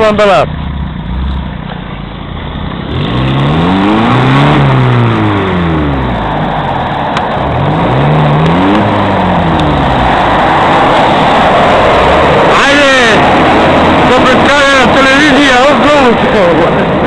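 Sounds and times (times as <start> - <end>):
engine revving hard: 2.8 - 17.0.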